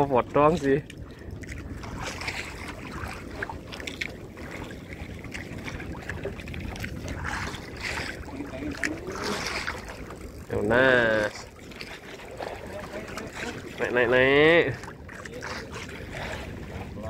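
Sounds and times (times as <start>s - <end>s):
water noise: 0.0s - 17.0s
wind buffeting microphone: 0.0s - 17.0s.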